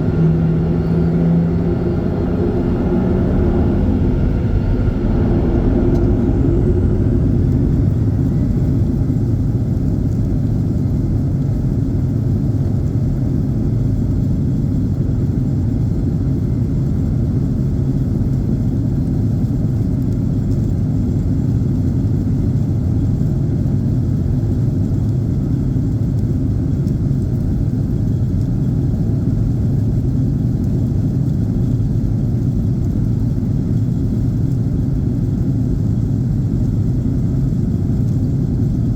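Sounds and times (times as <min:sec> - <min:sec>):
high engine whine: 0:00.0 - 0:38.9
jet engines rumbling on takeoff: 0:00.0 - 0:38.9.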